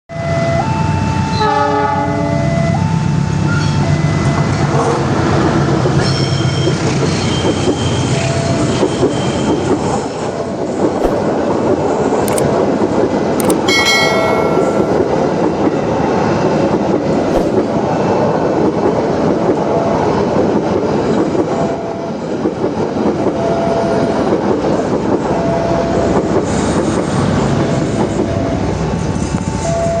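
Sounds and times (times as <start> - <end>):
train wheels on rails: 4.2 - 30.0.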